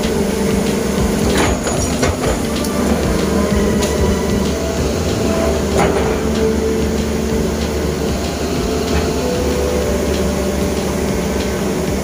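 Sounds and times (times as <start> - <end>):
excavator diesel engine running: 0.0 - 12.0
whining tones: 0.0 - 12.0.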